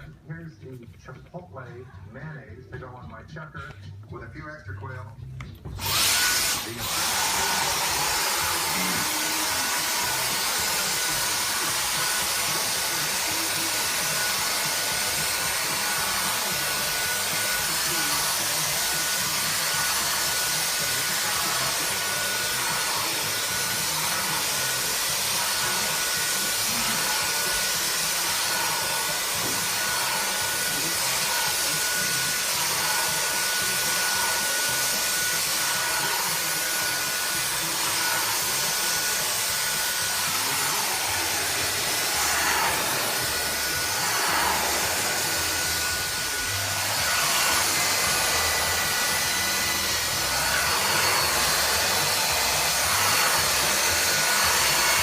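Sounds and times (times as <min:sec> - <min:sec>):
vacuum cleaner whining: 0:05.4 - 0:55.0.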